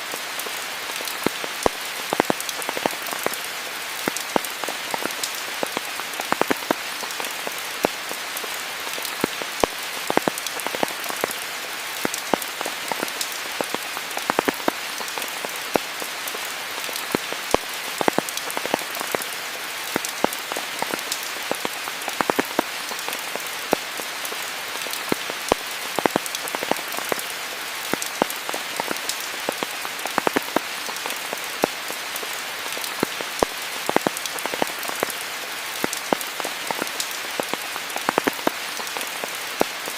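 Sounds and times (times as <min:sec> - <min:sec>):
rain falling on foliage: 0:00.0 - 0:39.9
raindrops pattering and ticking: 0:00.0 - 0:39.9.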